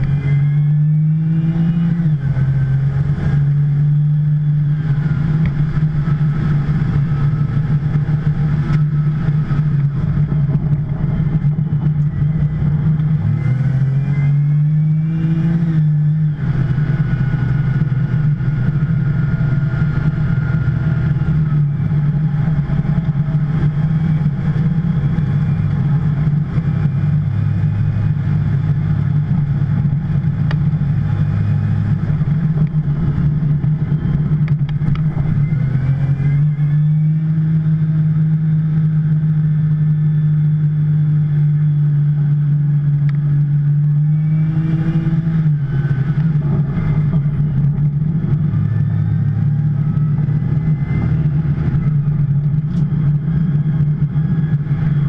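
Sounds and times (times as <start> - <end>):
car engine running steadily: 0.0 - 55.0.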